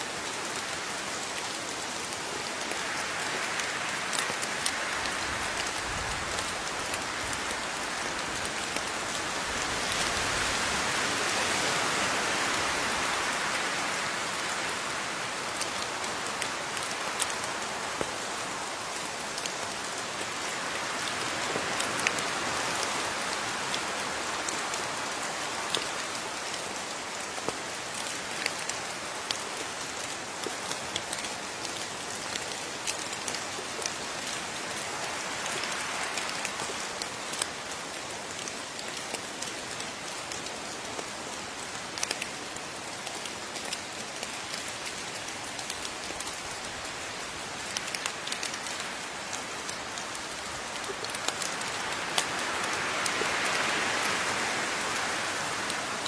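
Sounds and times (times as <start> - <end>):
rain hissing: 0.0 - 56.0
raindrops clicking on a surface: 0.2 - 56.0.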